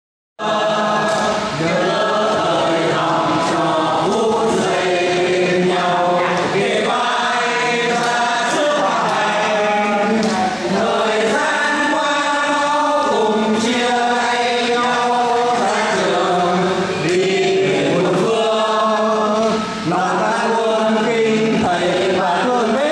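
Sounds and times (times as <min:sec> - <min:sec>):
man and woman singing: 0:00.4 - 0:22.9.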